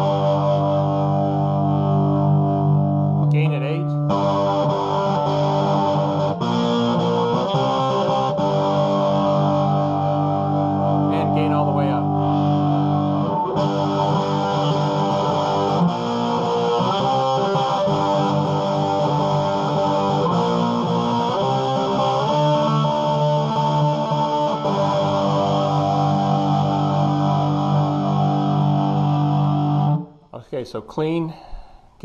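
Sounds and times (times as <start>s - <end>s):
overdriven electric guitar chords: 0.0s - 30.2s.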